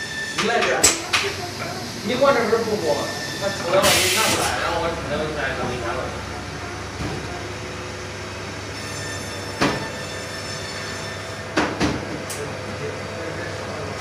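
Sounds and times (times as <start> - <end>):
packing machine humming: 0.0 - 14.0.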